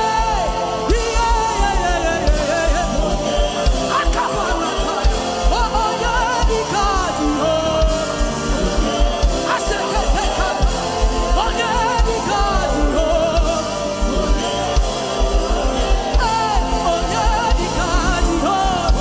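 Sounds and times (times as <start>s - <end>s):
band with pulsing bass beat: 0.0s - 19.0s
person singing gospel: 0.0s - 19.0s.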